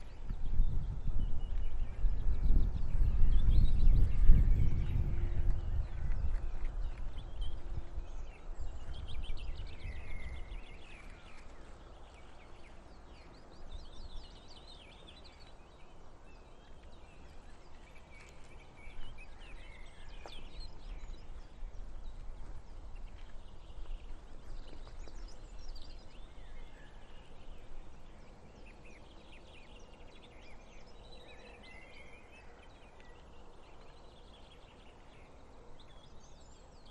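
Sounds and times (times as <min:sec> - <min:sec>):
low wind rumble: 0:00.0 - 0:36.9.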